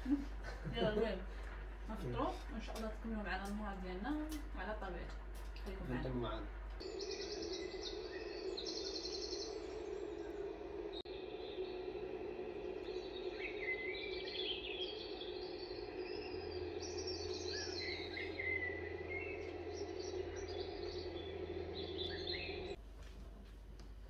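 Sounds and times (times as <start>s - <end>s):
birds chirping and twittering: 0.0s - 22.8s
steady low hum: 0.0s - 24.0s.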